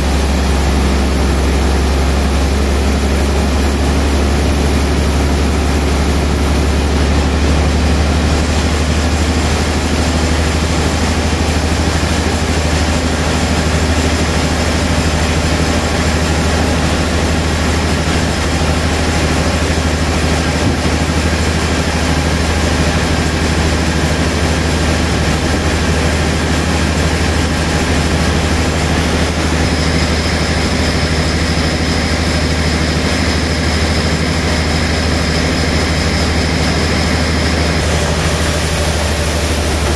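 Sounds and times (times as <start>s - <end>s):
band saw humming: 0.0s - 39.9s.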